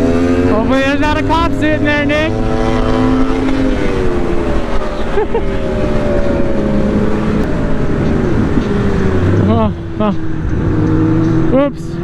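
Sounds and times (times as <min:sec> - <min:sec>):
motorcycle engine running: 0:00.0 - 0:12.0
wind over microphone: 0:00.0 - 0:12.0.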